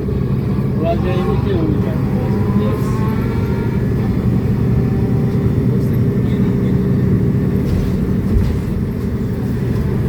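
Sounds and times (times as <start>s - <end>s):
bus engine low rumble: 0.0s - 10.0s.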